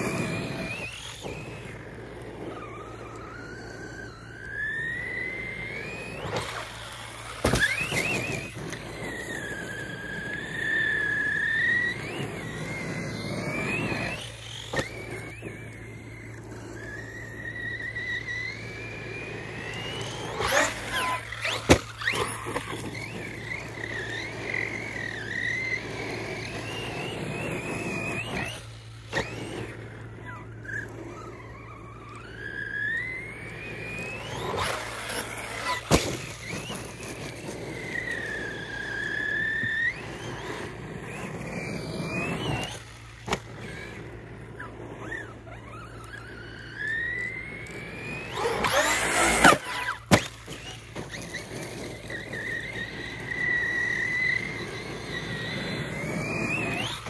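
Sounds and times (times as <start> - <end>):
rc truck motor whining: 0.0 - 57.0.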